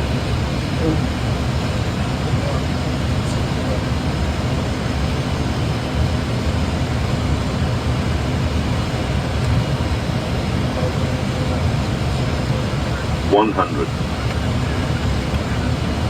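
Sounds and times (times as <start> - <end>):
airflow and engine noise: 0.0 - 16.0.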